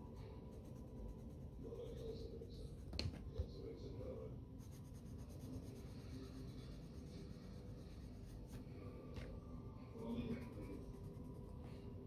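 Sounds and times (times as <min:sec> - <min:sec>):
pencil scratching on paper: 0:00.0 - 0:03.6, 0:04.5 - 0:08.8, 0:09.9 - 0:12.0.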